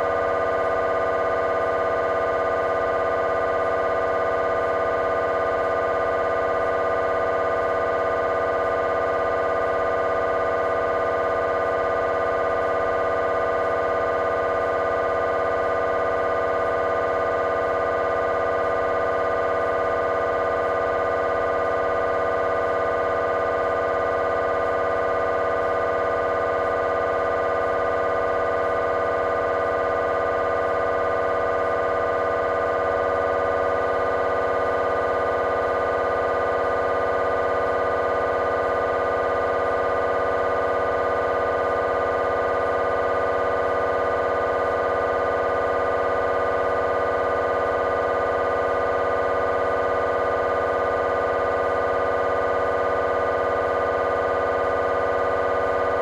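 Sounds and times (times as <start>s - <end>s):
mri scanner buzzing drone: 0.0s - 56.0s.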